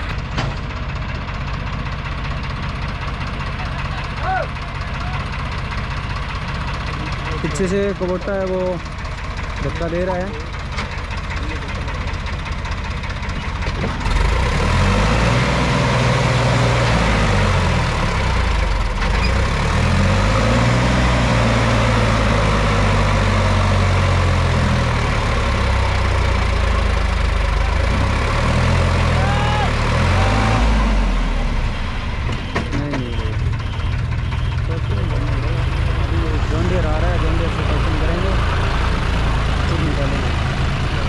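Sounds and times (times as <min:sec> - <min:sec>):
tractor engines under load: 0:00.0 - 0:41.0.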